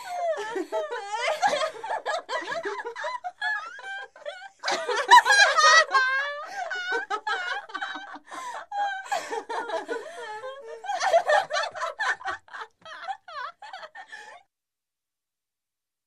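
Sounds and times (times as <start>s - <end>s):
girls laughing: 0.0s - 14.4s.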